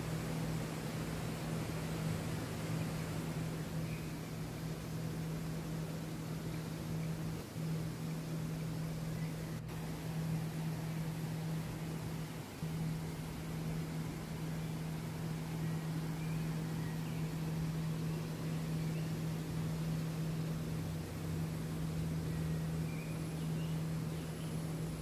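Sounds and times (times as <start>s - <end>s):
constant low hum: 0.0s - 25.0s.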